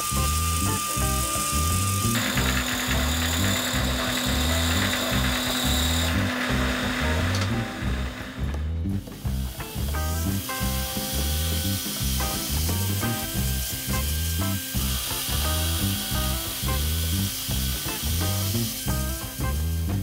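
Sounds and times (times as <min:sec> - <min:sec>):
belt sander hissing: 0:00.0 - 0:20.0
music with beat and bass: 0:00.0 - 0:20.0.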